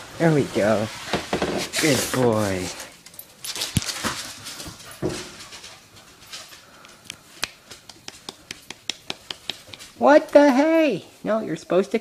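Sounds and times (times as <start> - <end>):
puppy scuffling and rustling: 0.0 - 11.4.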